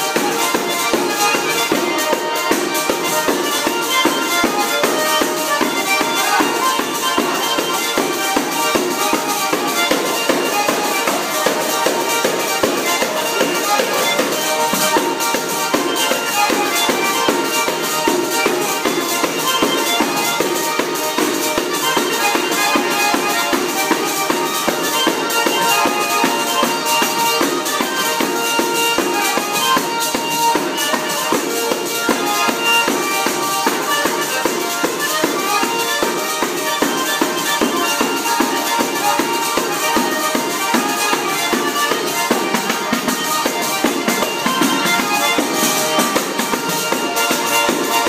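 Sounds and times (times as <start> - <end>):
fast percussion beat: 0.0 - 48.0
folk music melody: 0.0 - 48.0.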